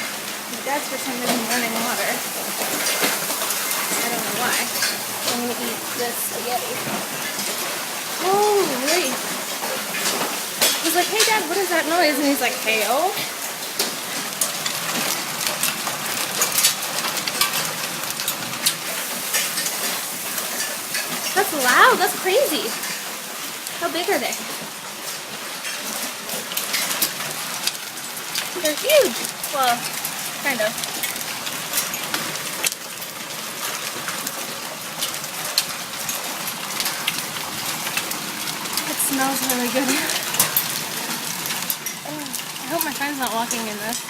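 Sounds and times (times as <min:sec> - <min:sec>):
hailstones pelting: 0:00.0 - 0:44.0
rain hiss: 0:00.0 - 0:44.0.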